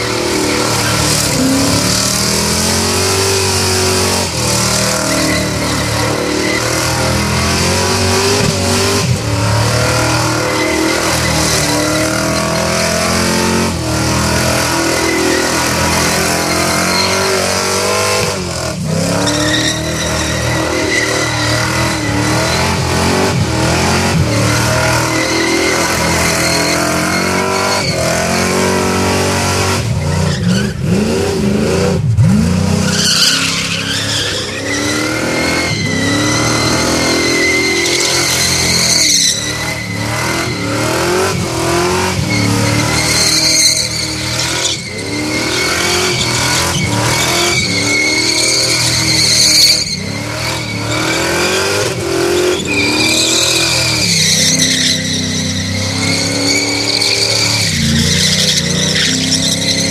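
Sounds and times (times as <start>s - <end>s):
tyres squealing: 0.0s - 31.2s, 32.7s - 59.9s
car engine revving high: 0.0s - 59.9s.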